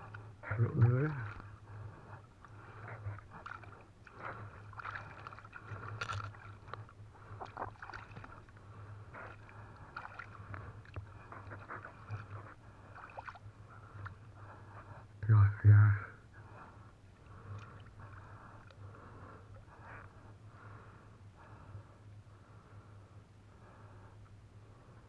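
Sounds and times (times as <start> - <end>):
water splashing and sloshing: 0.0 - 15.1, 16.4 - 21.7
low hum: 0.0 - 25.0.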